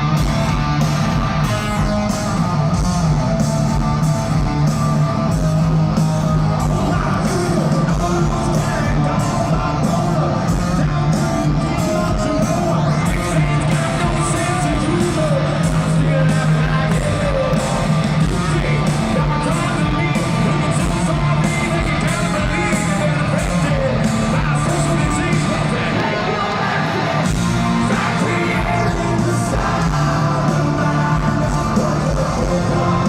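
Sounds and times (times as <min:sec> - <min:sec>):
crowd noise: 0:00.0 - 0:33.0
live hard rock band: 0:00.0 - 0:33.0
vocals: 0:06.3 - 0:33.0.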